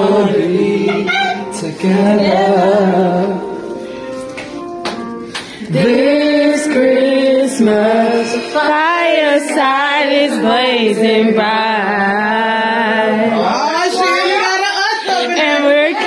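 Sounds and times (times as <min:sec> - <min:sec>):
person singing into microphone: 0:00.0 - 0:03.6, 0:05.6 - 0:16.0.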